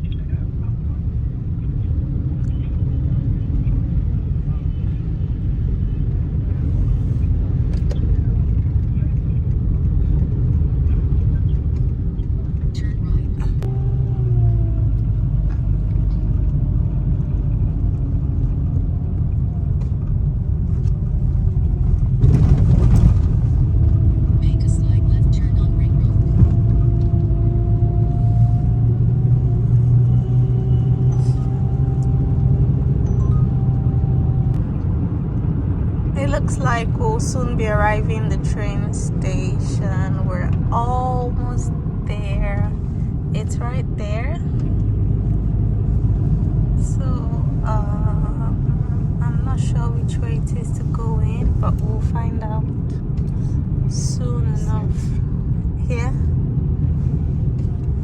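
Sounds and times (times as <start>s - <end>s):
road and engine rumble in car: 0.0s - 58.0s.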